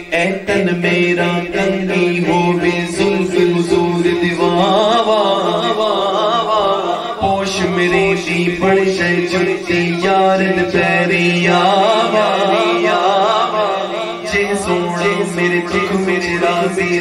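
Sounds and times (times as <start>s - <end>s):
lead male voice singing: 0.0s - 17.0s
low held vocal drone: 0.0s - 17.0s.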